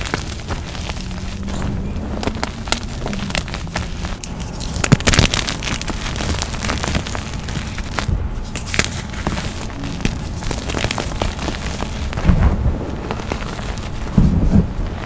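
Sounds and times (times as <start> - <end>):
hands crunching soft powder: 0.0 - 15.0.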